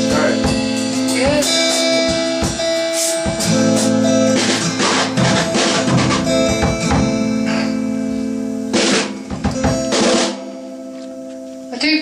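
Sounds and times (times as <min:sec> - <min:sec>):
drum kit hits: 0:00.0 - 0:10.8
amplified acoustic guitar chords: 0:00.0 - 0:12.0.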